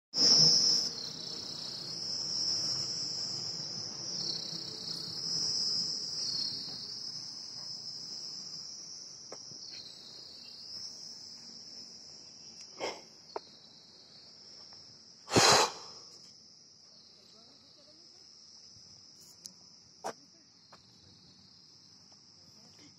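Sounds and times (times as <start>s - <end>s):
insects buzzing: 0.2s - 22.9s.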